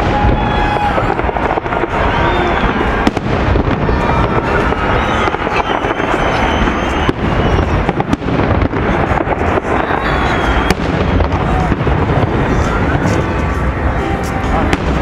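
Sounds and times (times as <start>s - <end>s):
fireworks bursts and crackling: 0.0s - 15.0s
sharp fireworks bangs: 0.0s - 15.0s.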